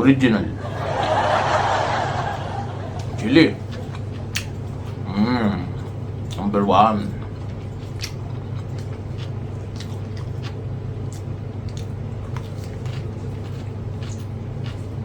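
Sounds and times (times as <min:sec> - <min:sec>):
low background hum: 0:00.0 - 0:15.0
man chewing food: 0:01.6 - 0:15.0.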